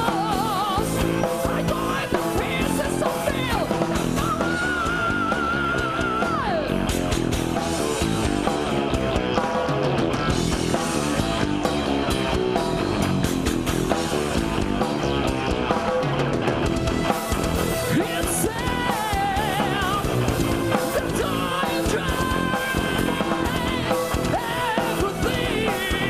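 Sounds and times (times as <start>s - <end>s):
metal band playing live: 0.0s - 26.0s.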